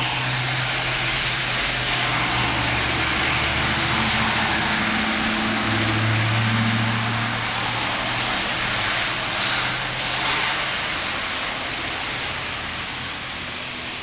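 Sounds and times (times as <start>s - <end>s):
low engine hum: 0.0s - 14.0s
water spray rushing hiss: 0.0s - 14.0s.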